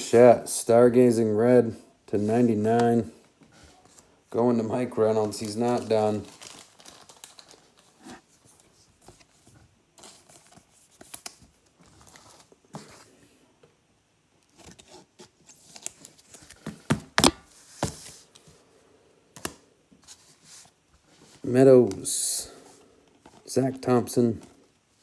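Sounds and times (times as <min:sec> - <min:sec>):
plastic sleeves rustling: 0:02.1 - 0:13.7, 0:14.4 - 0:25.0.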